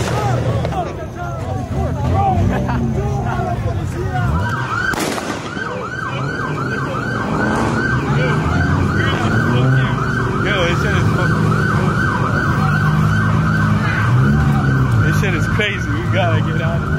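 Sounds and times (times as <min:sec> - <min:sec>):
police siren yelping: 0:02.9 - 0:16.9.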